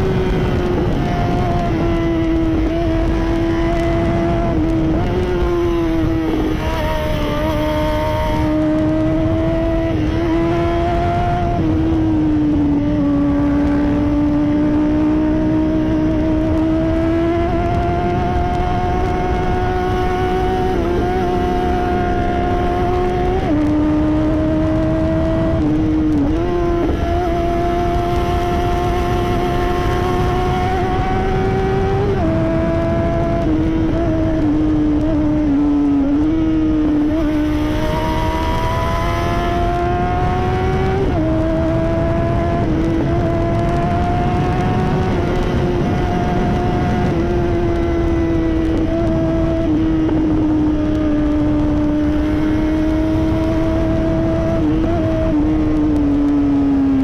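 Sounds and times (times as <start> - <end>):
motorcycle engine at high revs: 0.0 - 57.0
wind rush: 0.0 - 57.0.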